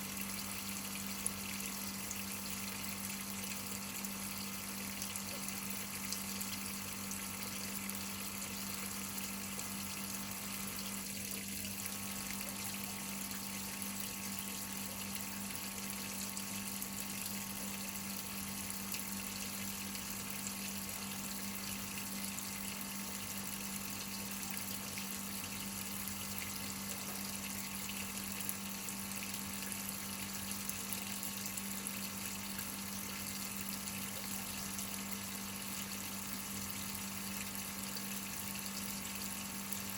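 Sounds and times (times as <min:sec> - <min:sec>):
water rushing into washing machine: 0:00.0 - 0:39.9.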